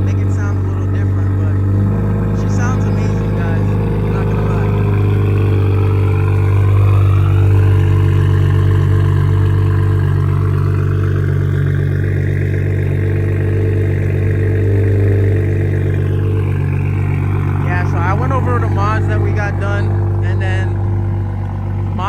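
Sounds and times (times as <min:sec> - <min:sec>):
car engine idling loudly: 0:00.0 - 0:22.0.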